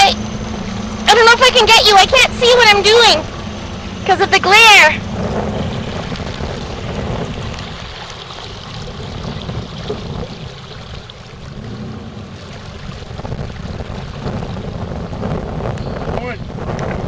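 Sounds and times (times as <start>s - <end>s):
motorboat engine running: 0.0s - 17.0s
water washing against hull: 0.0s - 17.0s
wind on microphone: 0.0s - 17.0s.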